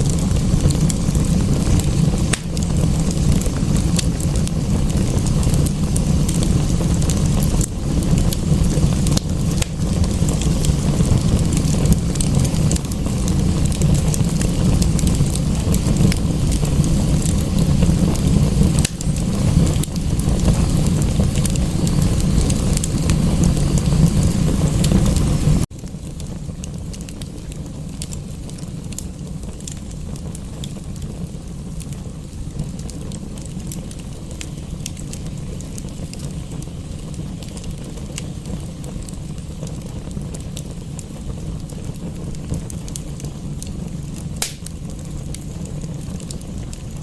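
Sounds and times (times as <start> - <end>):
rain hissing: 0.0 - 47.0
wood fire crackling and popping: 0.0 - 47.0.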